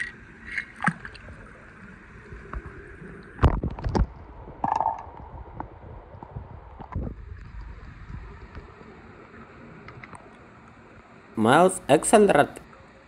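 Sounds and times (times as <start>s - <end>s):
watery gurgling: 0.0s - 10.6s.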